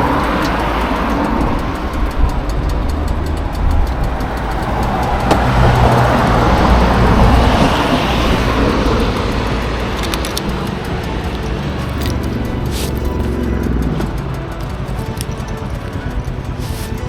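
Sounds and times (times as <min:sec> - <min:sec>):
motorcycle engine rumbling: 0:00.0 - 0:17.0
rushing noise: 0:00.0 - 0:17.0.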